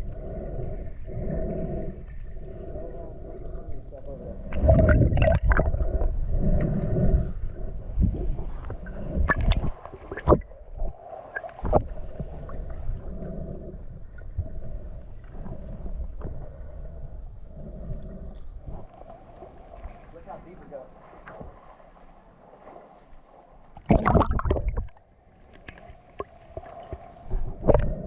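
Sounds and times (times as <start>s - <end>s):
muffled underwater rumble: 0.0s - 28.0s
bubbling: 1.8s - 22.0s, 23.7s - 28.0s.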